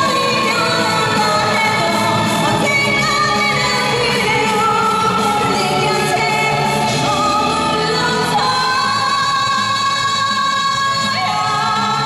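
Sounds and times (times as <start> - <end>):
full band backing: 0.0 - 12.0
woman singing pop song: 0.0 - 12.0.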